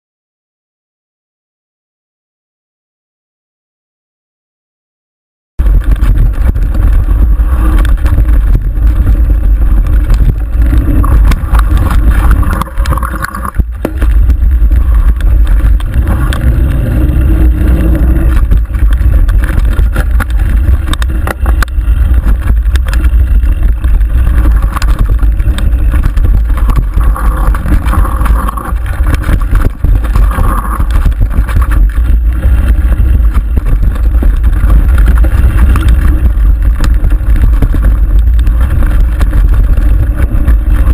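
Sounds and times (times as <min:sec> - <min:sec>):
bike rattling over rough trail: 0:05.6 - 0:40.9
wind rumble on microphone: 0:05.6 - 0:40.9.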